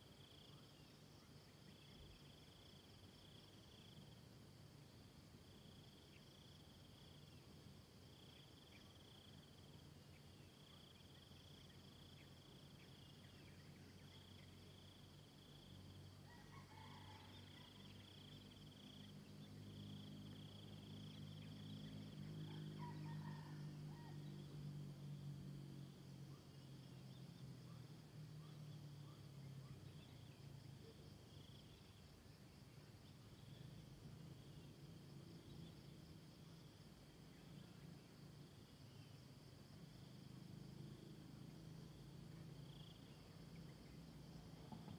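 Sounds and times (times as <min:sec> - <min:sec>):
insects trilling: 0:08.1 - 0:44.9.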